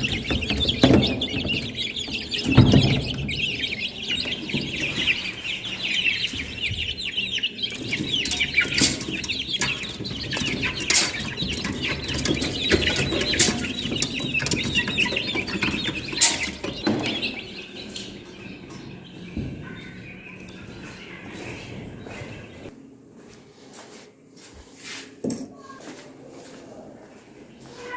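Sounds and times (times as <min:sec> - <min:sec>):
small chirping calls: 0:00.0 - 0:22.7
chickens clucking: 0:00.0 - 0:22.8.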